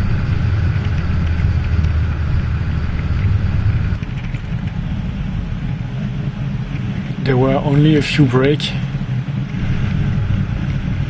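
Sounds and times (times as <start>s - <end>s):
wheels rolling over asphalt: 0.0s - 11.0s
wind at speed: 0.0s - 11.0s.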